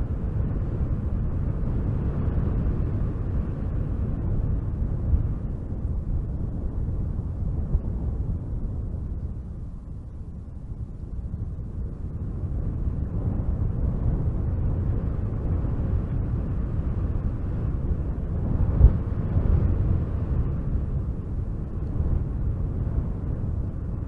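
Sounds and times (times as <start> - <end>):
wind blowing in gusts: 0.0 - 24.0.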